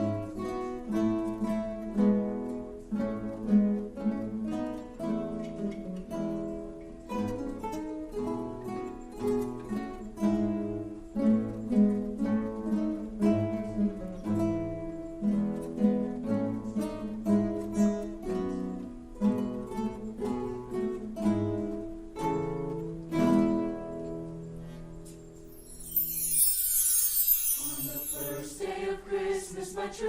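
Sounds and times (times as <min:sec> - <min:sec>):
acoustic guitar playing: 0:00.0 - 0:29.3.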